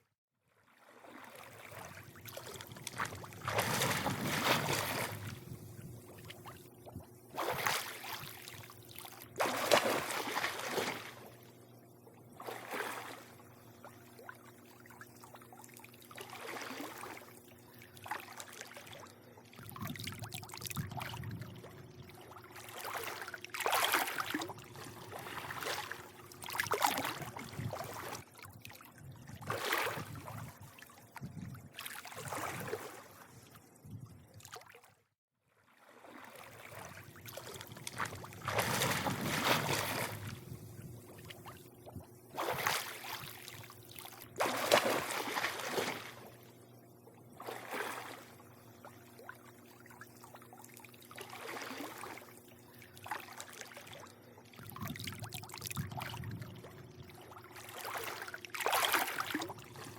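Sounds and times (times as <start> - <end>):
pool water lapping and splashing: 0.5 - 59.9
faint steady hum: 0.8 - 34.6, 35.8 - 59.9.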